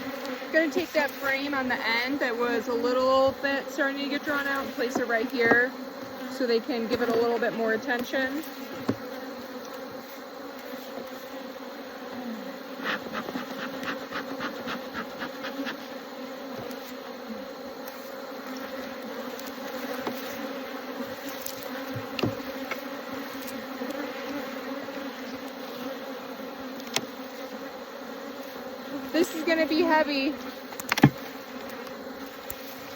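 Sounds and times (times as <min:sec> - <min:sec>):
honeybees buzzing: 0:00.0 - 0:32.9.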